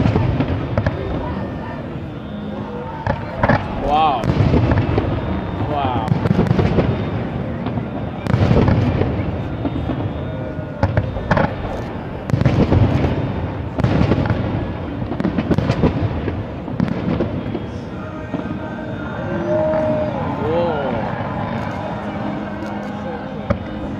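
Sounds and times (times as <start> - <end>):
firework booms: 0.0 - 20.4
firework cracks: 0.0 - 23.9.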